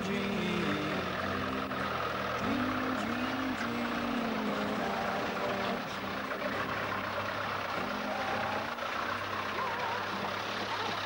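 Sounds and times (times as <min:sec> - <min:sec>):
off-road vehicle engine running: 0:00.0 - 0:11.0
water splashing around wheels: 0:00.0 - 0:11.0.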